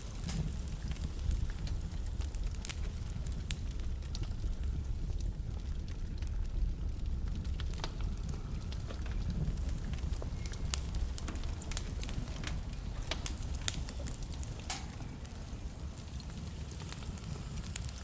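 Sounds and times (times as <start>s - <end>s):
fire low rumble: 0.0s - 18.0s
logs crackling and popping: 0.0s - 18.0s.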